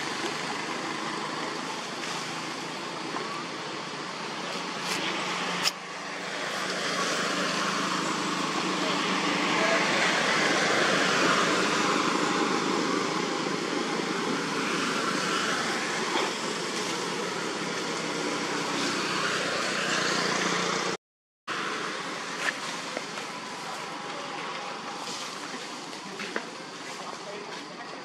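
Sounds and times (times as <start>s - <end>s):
rushing outdoor background noise: 0.0s - 28.0s.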